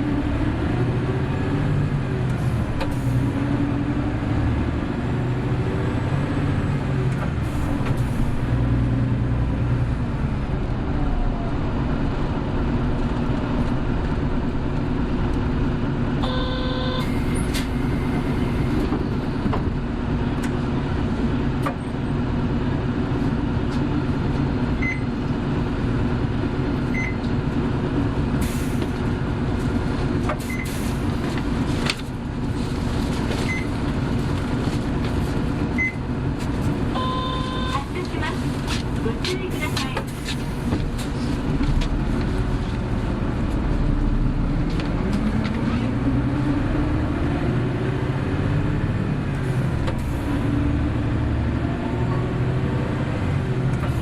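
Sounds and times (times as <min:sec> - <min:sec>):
bus engine: 0:00.0 - 0:54.0.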